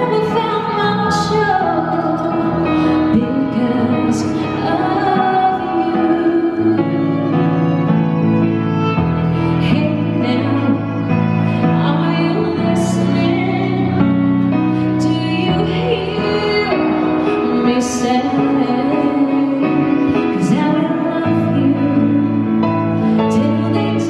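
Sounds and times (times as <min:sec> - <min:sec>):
woman singing into microphone: 0:00.0 - 0:07.8, 0:09.4 - 0:24.0
violin: 0:00.0 - 0:24.0.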